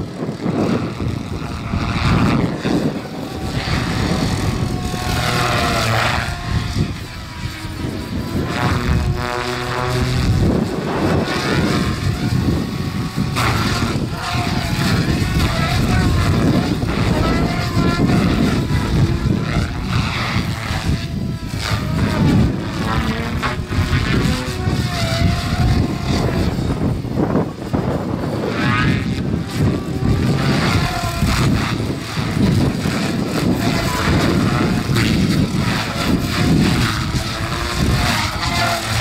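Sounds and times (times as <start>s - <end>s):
model helicopter whine: 0.0s - 39.0s
rotor blades whooshing: 0.0s - 39.0s.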